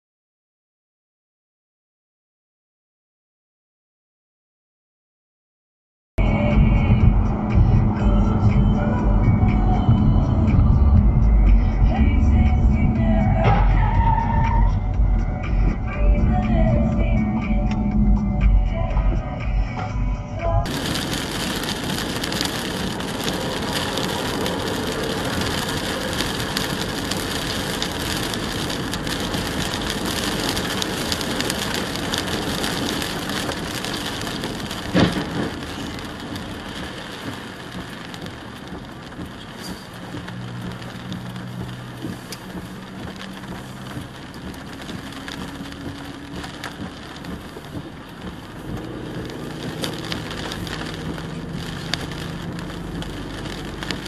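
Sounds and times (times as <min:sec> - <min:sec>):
rain on car windshield and roof: 0:06.2 - 0:19.7, 0:20.4 - 0:54.0
low car hum: 0:06.2 - 0:54.0
tyres on wet road: 0:06.2 - 0:54.0.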